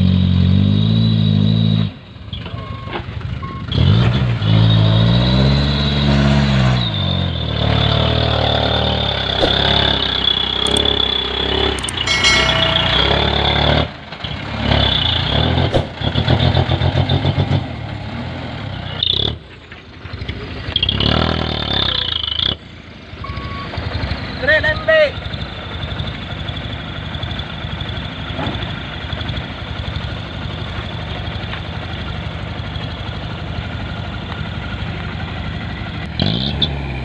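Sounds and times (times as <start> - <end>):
diesel truck engine revving: 0.0 - 11.8, 13.5 - 24.4, 25.2 - 37.0.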